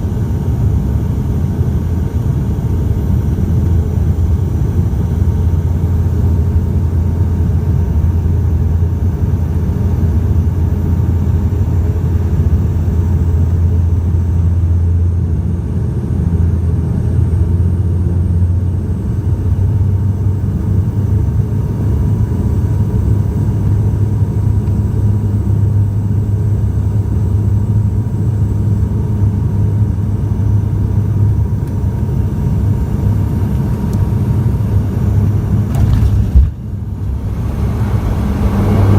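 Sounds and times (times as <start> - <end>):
turboprop engines droning in cabin: 0.0 - 38.9.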